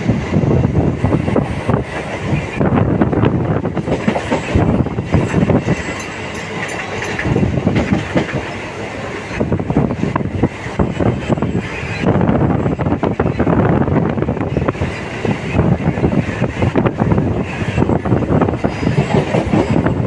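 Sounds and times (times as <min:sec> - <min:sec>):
train wheels clattering over rail joints: 0:01.1 - 0:13.5, 0:14.1 - 0:20.0.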